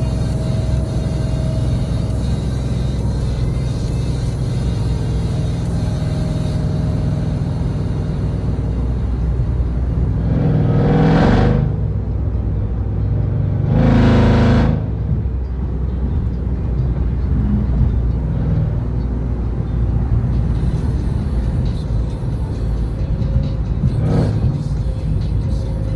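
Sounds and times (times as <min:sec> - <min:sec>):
car engine accelerating: 0:00.0 - 0:25.9
car engine droning in cabin: 0:00.0 - 0:25.9.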